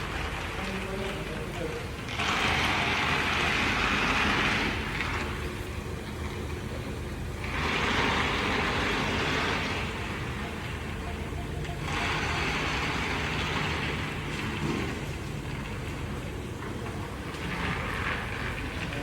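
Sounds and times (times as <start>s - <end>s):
car engine running: 2.0s - 19.0s.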